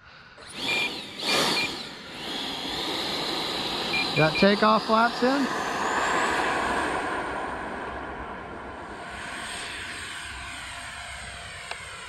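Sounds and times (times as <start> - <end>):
model jet fan whine: 0.4 - 12.0
rushing air: 1.5 - 11.5.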